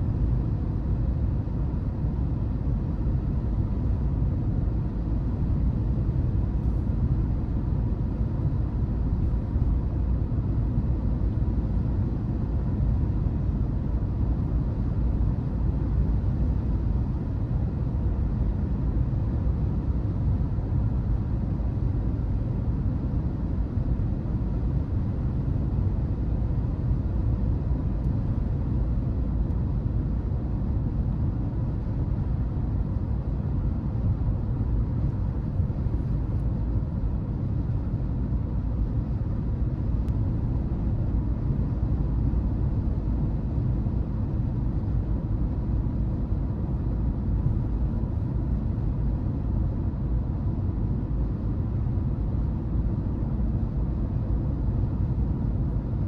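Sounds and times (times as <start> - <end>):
car road and engine rumble: 0.0 - 53.2.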